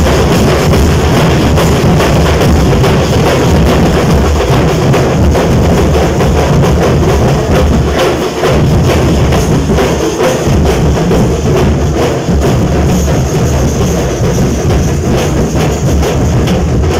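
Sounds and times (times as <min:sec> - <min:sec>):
barrel drums beaten loudly: 0:00.0 - 0:16.9.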